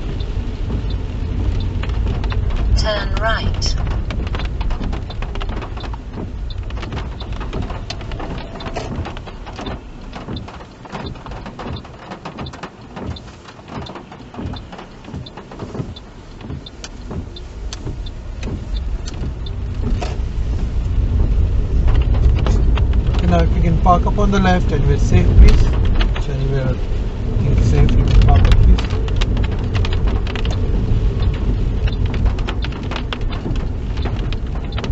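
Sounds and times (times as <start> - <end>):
car engine and tyre rumble: 0.0 - 34.9
rain ticking on car: 0.0 - 34.9.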